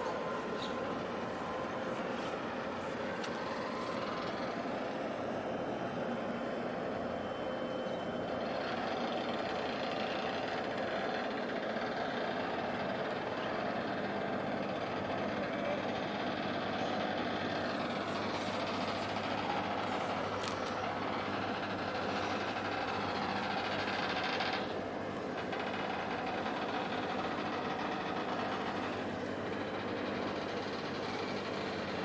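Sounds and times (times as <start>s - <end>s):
constant wash of noise: 0.0s - 32.0s
engine rumble: 0.0s - 32.0s.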